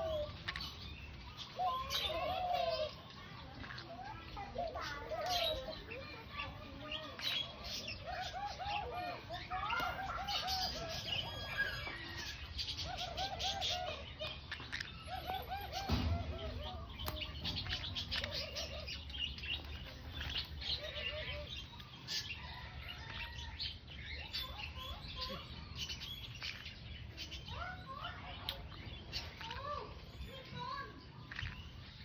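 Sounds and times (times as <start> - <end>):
parrots chirping and chattering: 0.0 - 32.0.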